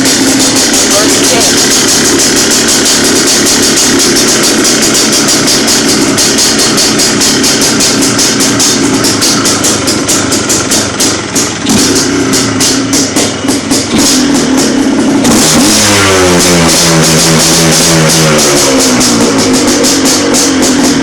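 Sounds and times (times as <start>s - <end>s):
two-stroke engine running loud: 0.0s - 21.0s.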